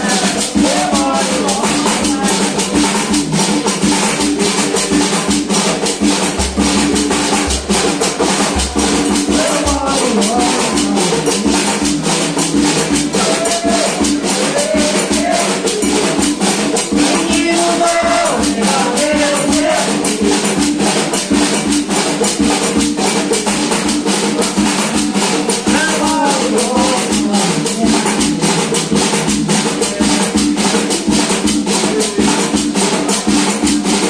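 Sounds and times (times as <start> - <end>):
drums: 0.0 - 34.0
maraca rattles: 0.0 - 34.0
voices singing a chant: 0.0 - 34.0.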